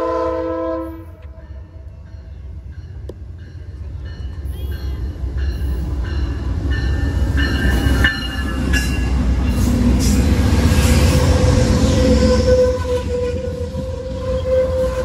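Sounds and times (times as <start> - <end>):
diesel locomotive engine rumble: 0.0 - 15.0
train wheels rolling: 1.0 - 15.0.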